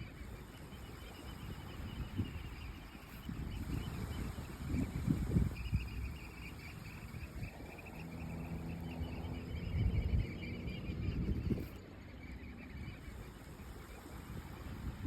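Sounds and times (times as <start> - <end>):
faint high chirring: 0.0 - 15.0
wind buffeting microphone: 0.0 - 15.0.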